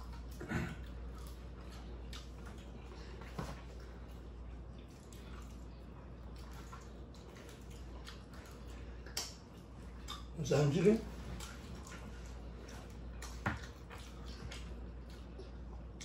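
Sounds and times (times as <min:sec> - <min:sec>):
chewing and wet mouth noises: 0:00.0 - 0:16.0
low steady hum: 0:00.0 - 0:16.0.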